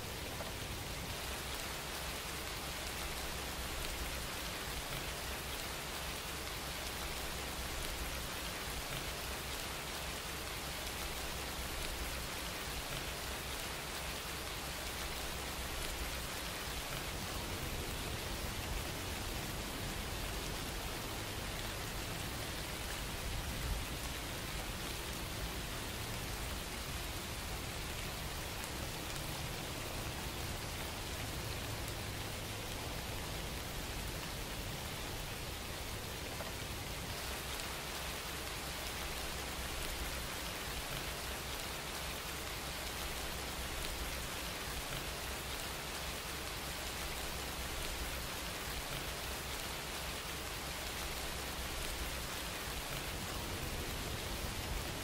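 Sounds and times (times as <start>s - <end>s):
steady rain-like hiss: 0.0s - 55.0s.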